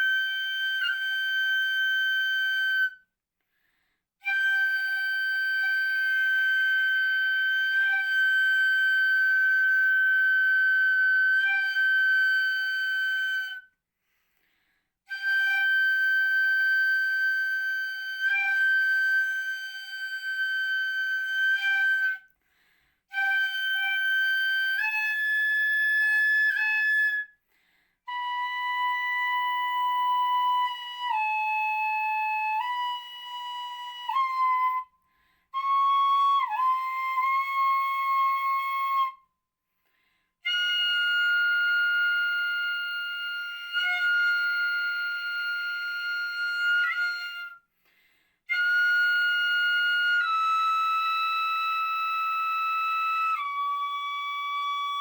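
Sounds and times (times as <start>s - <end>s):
bamboo flute slow melody: 0.0s - 3.2s, 4.2s - 13.8s, 15.0s - 27.4s, 28.0s - 39.3s, 40.4s - 55.0s.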